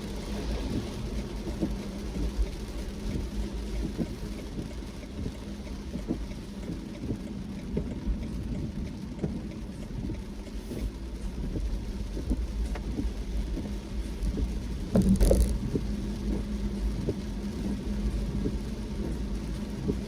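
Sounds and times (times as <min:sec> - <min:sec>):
car road and engine rumble: 0:00.0 - 0:20.0
raindrops tapping: 0:00.1 - 0:20.0.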